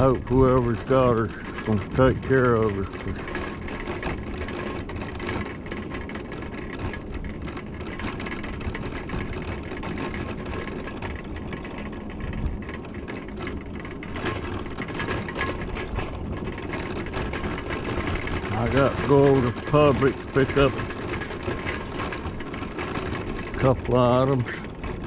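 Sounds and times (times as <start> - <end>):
tyres rumbling on asphalt: 0.0 - 25.0.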